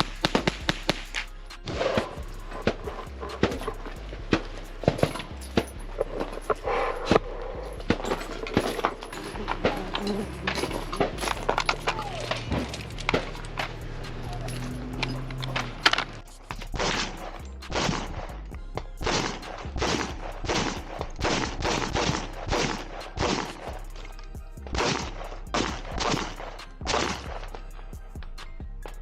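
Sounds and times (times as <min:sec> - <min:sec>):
music with heavy percussive beat: 0:00.0 - 0:29.0.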